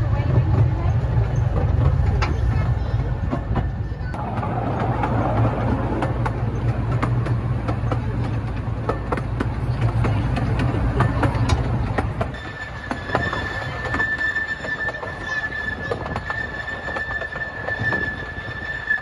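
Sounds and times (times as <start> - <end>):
rumble of train wheels: 0.0 - 19.0
small diesel locomotive drone: 0.0 - 19.0.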